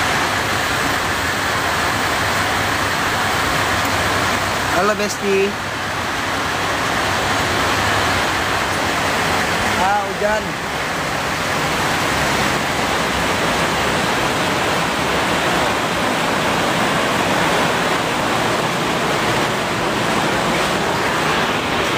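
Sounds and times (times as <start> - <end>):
heavy rain on roof: 0.0 - 21.9.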